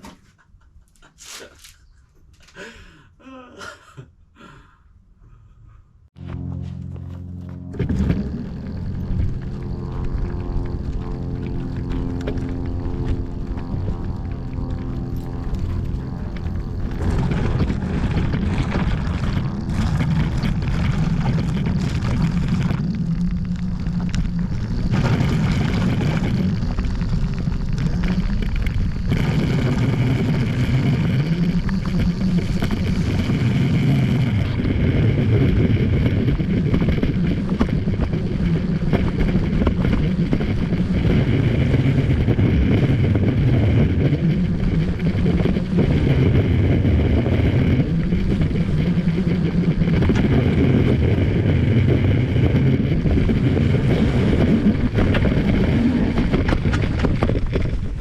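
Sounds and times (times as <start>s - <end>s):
electric hub motors whirring: 6.2s - 58.0s
wind rumbling on microphone: 6.2s - 58.0s.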